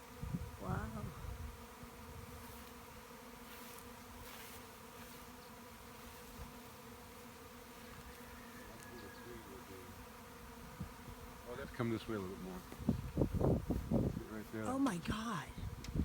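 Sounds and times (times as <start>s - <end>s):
bee swarm humming: 0.0s - 16.0s.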